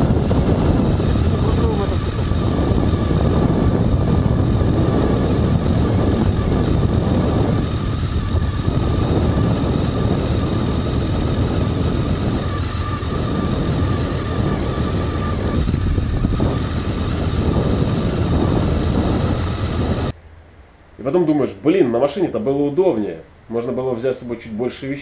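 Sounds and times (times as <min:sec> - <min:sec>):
motorcycle engine running: 0:00.0 - 0:20.1
wind and road noise: 0:00.0 - 0:20.2.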